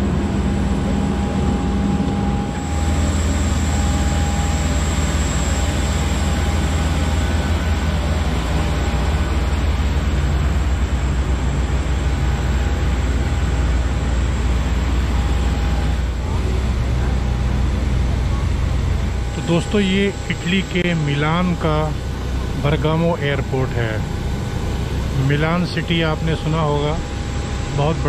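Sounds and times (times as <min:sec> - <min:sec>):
jet engine whine and rumble: 0:00.0 - 0:28.0
low hum: 0:00.0 - 0:28.0.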